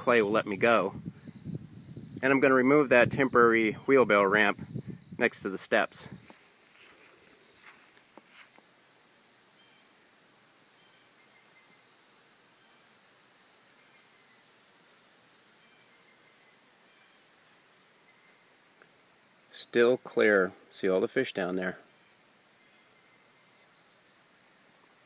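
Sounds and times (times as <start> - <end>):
lower pulsing insect trill: 0.0 - 25.0
high-pitched insect trill: 0.2 - 21.1, 21.8 - 25.0.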